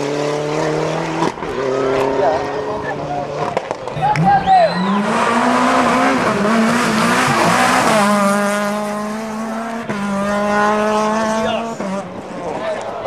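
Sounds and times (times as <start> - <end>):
rally car engine at full throttle: 0.0 - 13.0.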